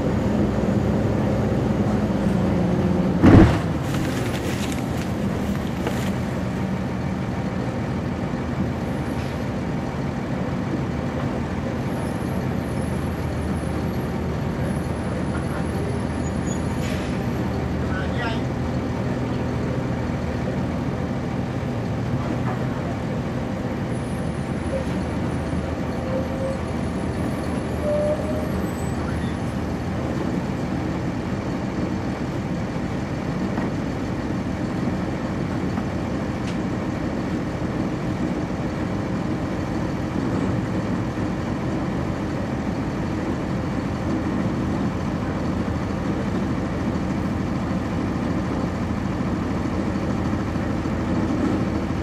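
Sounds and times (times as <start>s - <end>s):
bus diesel engine running: 0.0s - 52.0s
road noise: 0.0s - 52.0s.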